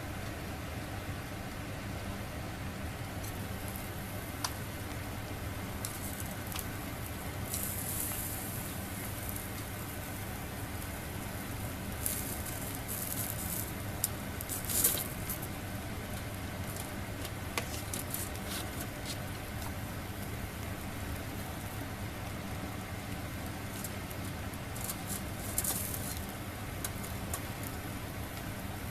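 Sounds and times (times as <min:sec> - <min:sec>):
food sizzling on a grill: 0:02.8 - 0:28.9.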